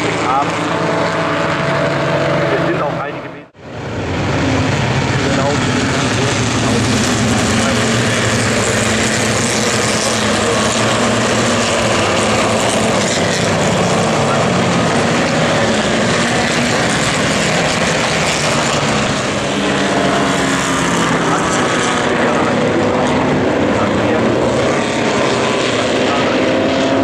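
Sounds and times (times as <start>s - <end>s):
racing car engines droning: 0.0s - 27.0s.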